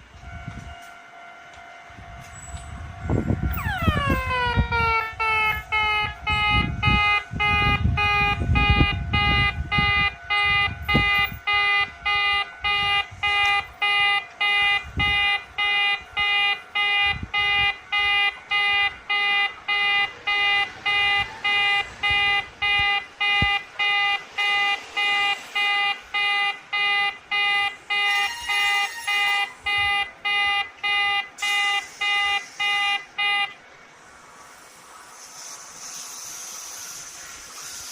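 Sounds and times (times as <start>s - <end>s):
level crossing alarm beeping: 0.0s - 33.6s.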